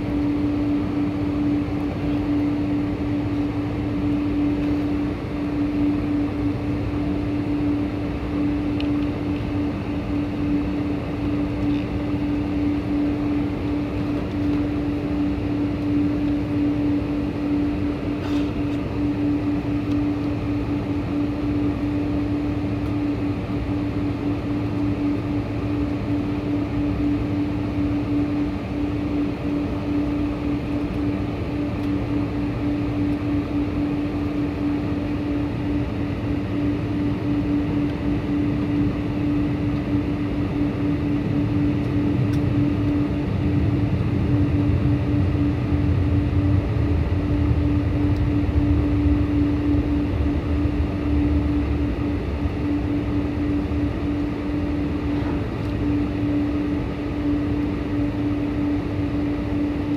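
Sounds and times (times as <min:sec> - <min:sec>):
jet airliner engine drone: 0:00.0 - 0:59.9.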